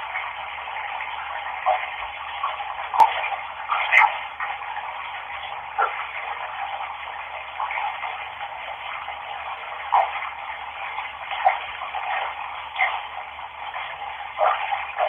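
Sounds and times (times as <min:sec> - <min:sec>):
water splashes: 0:00.0 - 0:15.0.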